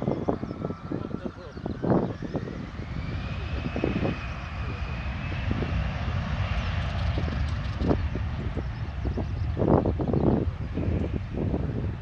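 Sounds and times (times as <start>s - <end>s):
jet turbine engine whine: 0.0s - 12.0s
low engine rumble: 0.0s - 12.0s.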